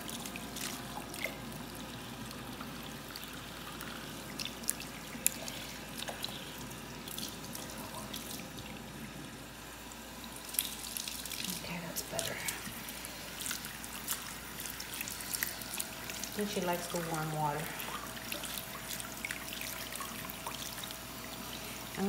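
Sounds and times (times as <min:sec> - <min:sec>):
small splashes and drips: 0:00.0 - 0:22.0
water trickling in a sink: 0:00.0 - 0:22.0.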